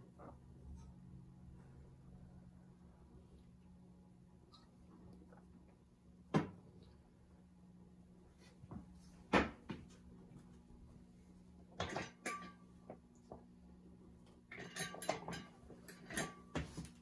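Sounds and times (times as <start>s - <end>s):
ceiling fan electrical hum: 0.0s - 17.0s.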